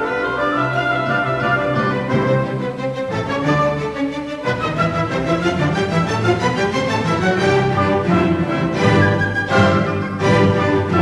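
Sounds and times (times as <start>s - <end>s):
orchestral music with strings: 0.0s - 11.0s.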